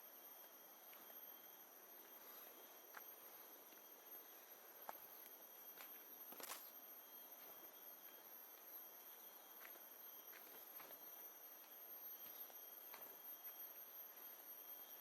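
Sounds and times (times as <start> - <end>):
soft footsteps on a path: 0.4 - 1.2, 1.9 - 14.5.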